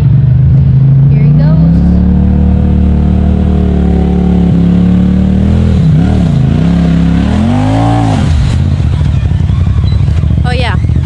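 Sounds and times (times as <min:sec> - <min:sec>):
utility vehicle engine revving: 0:00.0 - 0:11.0.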